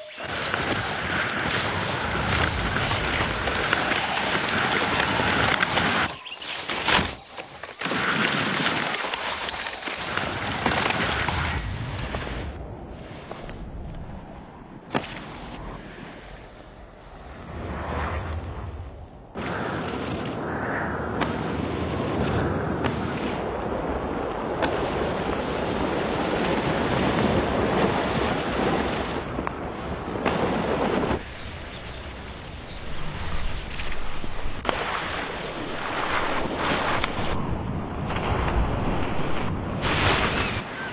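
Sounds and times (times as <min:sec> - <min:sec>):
skis skimming across water: 0:00.1 - 0:13.6, 0:14.9 - 0:16.6, 0:19.4 - 0:20.5, 0:21.2 - 0:37.4, 0:38.0 - 0:40.9.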